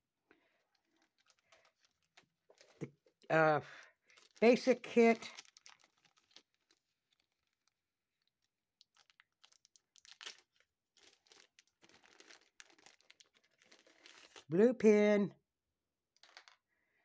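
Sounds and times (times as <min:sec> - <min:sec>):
plastic bag crinkling: 0:00.5 - 0:14.5.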